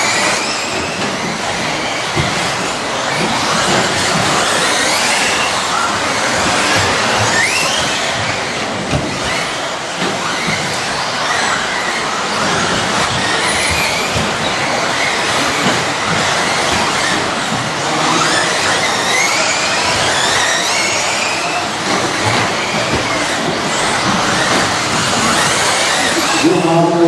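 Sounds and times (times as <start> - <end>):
model car motors whining: 0.0 - 27.0.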